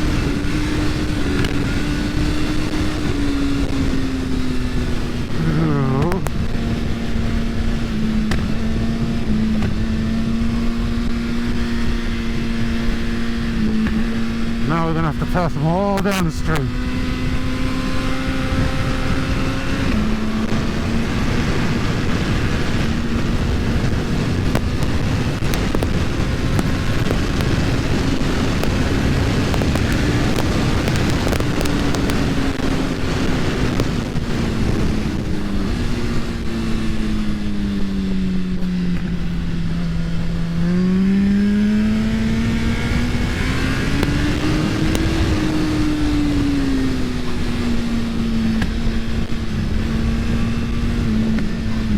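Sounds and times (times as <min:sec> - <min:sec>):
motorcycle engine accelerating: 0:00.0 - 0:51.9
wind noise: 0:00.0 - 0:51.9.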